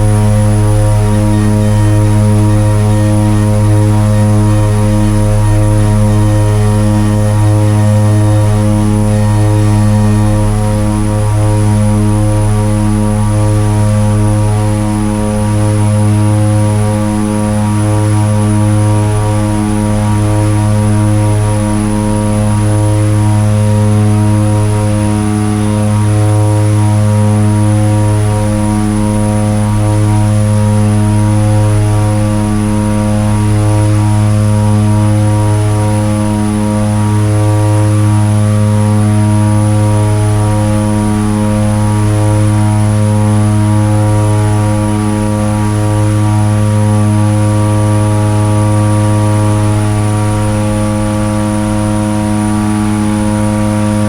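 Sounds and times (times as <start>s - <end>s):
propeller engines droning: 0.0s - 54.0s.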